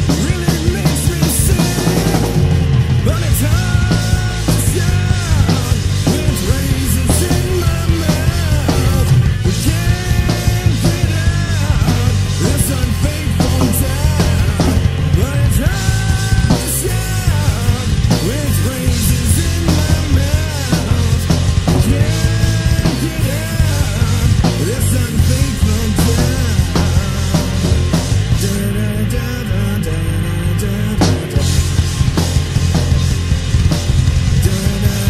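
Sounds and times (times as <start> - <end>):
grunge rock song: 0.0 - 35.0.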